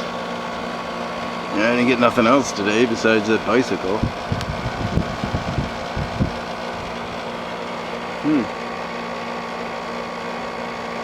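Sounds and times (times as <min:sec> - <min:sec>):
dehumidifier compressor and fan hum: 0:00.0 - 0:11.0.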